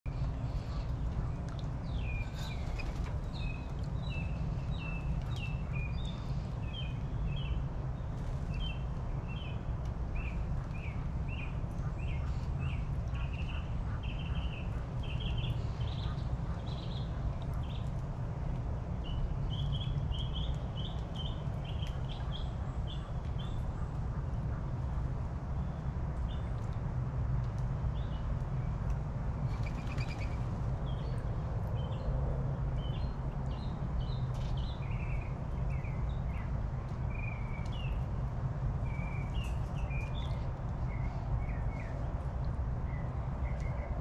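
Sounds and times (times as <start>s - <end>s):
small birds chirping: 0.1s - 24.0s, 27.5s - 32.2s, 32.8s - 42.2s
steady low rumble: 0.1s - 44.0s.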